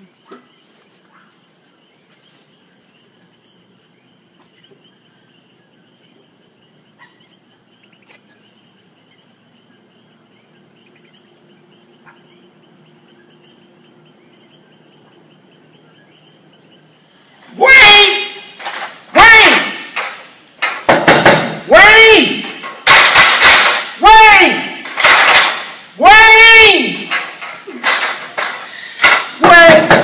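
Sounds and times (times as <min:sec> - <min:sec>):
night insects chirring: 0:00.0 - 0:30.0.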